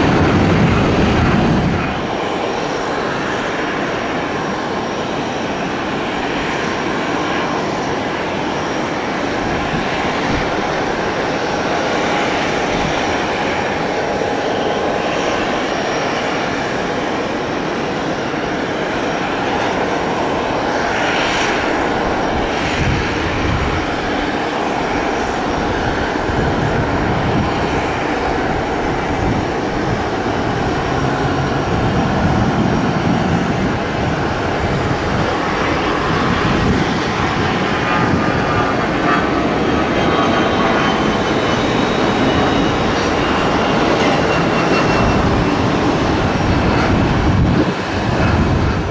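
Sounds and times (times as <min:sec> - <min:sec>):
airplane engines running: 0:00.0 - 0:48.9.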